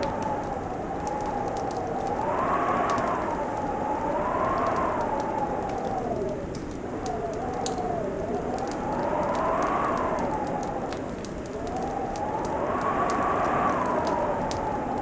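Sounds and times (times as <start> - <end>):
wind howling: 0.0 - 15.0
wood fire crackling and popping: 0.0 - 15.0.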